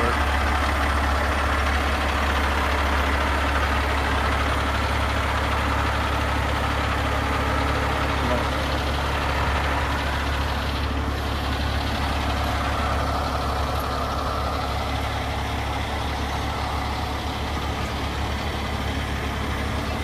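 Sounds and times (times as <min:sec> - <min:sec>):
tow truck engine idling: 0:00.0 - 0:20.0.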